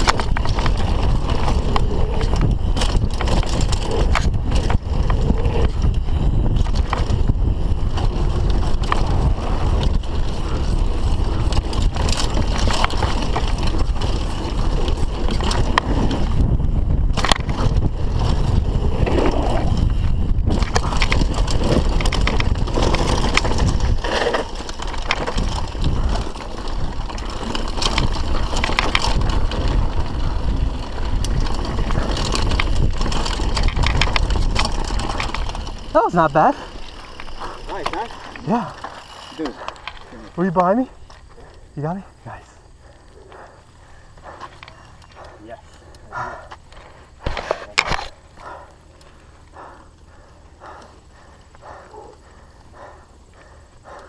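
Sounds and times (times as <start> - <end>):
bike rattling and knocking: 0.0 - 54.0
bike tyres rumbling over dirt: 0.0 - 54.0.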